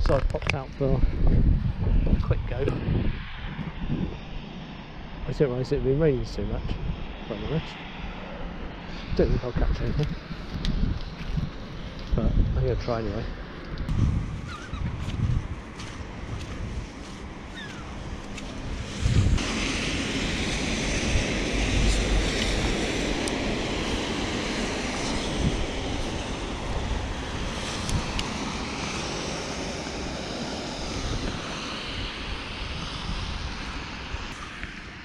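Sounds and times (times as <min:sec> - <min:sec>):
wind buffeting microphone: 0:00.0 - 0:34.8.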